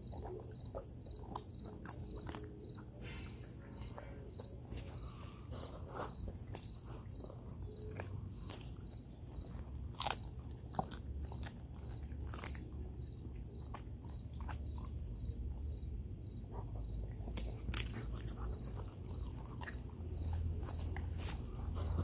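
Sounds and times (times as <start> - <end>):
dog chewing and crunching bones: 0.0 - 22.0
faint even chirping: 0.0 - 22.0.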